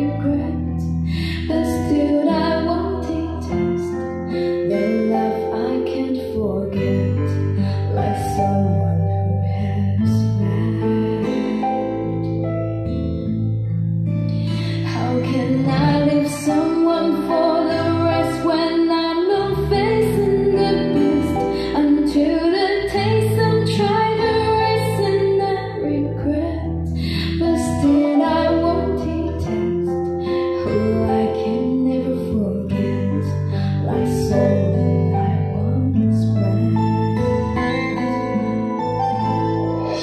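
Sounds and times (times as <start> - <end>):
song with female vocal: 0.0 - 12.5, 14.3 - 38.8, 39.8 - 40.0
steady bass line: 0.0 - 40.0.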